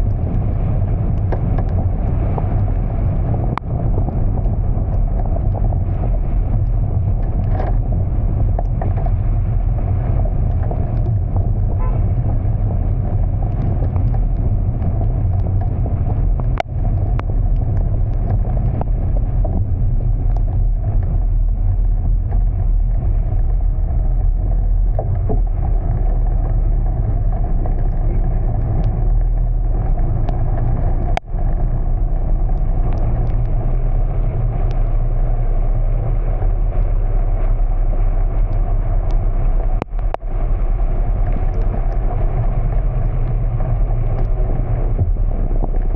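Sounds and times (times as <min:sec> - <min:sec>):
car driving rumble: 0:00.0 - 0:45.9.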